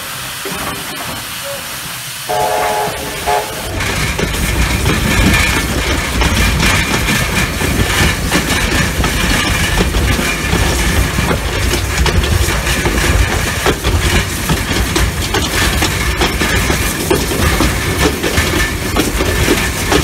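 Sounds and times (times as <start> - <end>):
steam locomotive rumble and rattle: 0.0 - 20.0
wheels clicking on rails: 0.0 - 20.0.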